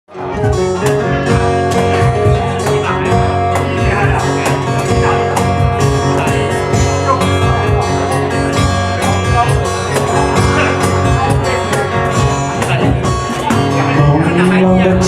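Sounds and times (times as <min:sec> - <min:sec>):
bass guitar: 0:00.1 - 0:15.0
guitar: 0:00.1 - 0:15.0
steady drum beat: 0:00.4 - 0:15.0.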